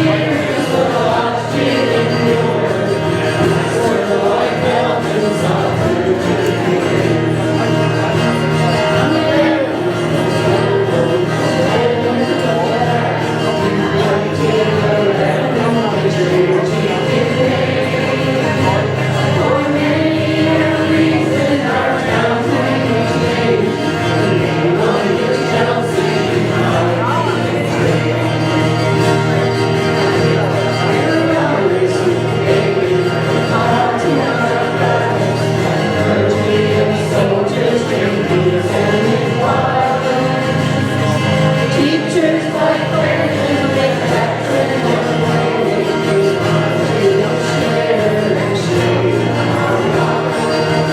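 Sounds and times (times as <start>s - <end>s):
group of voices singing: 0.0s - 50.9s.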